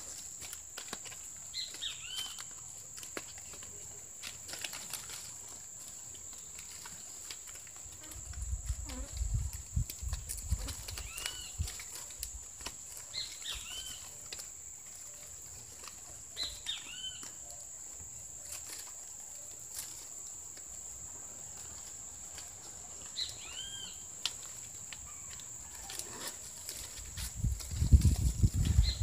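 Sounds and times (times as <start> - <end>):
palm leaf strips crackling: 0.0 - 29.0.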